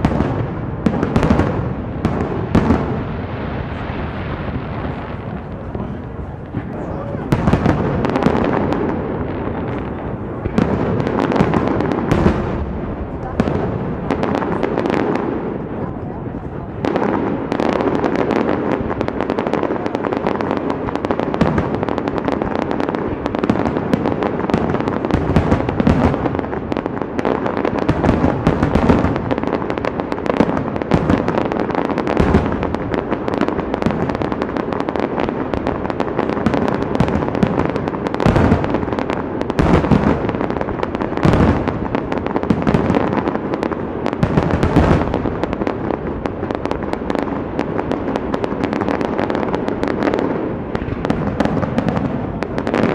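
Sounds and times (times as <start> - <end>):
deep firework booms: 0.0 - 52.9
fireworks bangs and crackle: 0.0 - 52.9.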